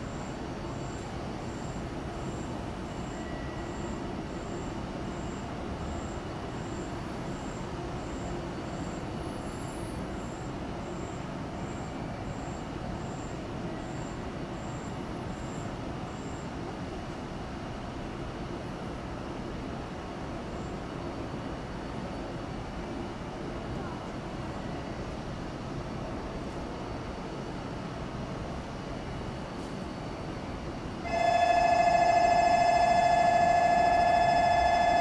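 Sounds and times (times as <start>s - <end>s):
station platform hum: 0.0s - 35.0s.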